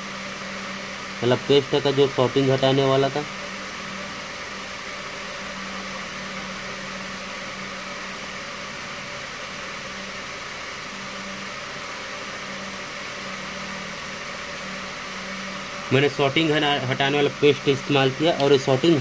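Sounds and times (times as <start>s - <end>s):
low hum: 0.0s - 19.0s
steady background hiss: 0.0s - 19.0s.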